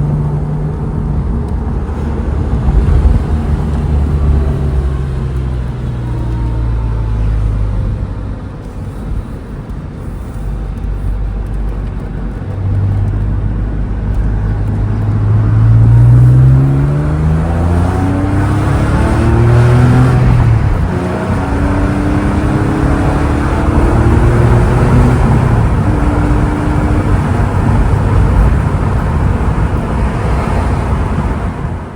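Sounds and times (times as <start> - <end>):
car engine driving: 0.0 - 31.9.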